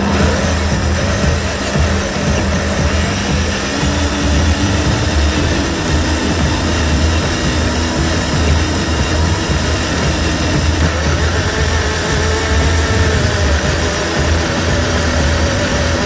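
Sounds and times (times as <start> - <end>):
driving over leaf litter: 0.0 - 16.0
toy truck electric motor whining: 0.0 - 16.0.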